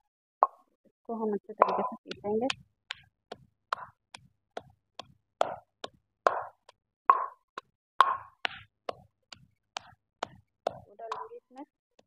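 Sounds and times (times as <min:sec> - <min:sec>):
pestle pounding in stone mortar: 0:01.6 - 0:12.0.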